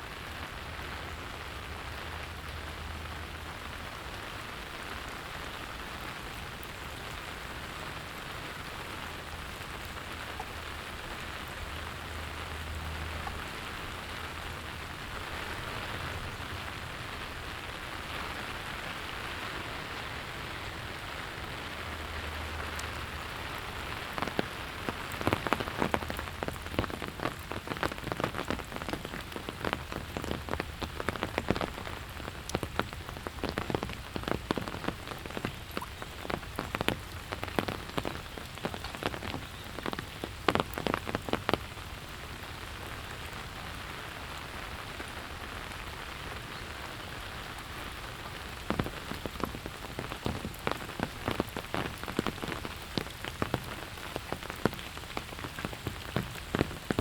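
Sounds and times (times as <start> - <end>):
even hiss of rain: 0.0 - 57.0
rain drops striking close: 0.0 - 57.0.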